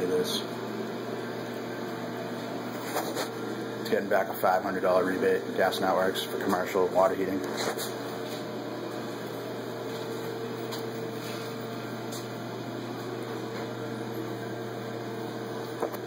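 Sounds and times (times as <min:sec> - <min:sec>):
water heater humming: 0:00.0 - 0:16.0.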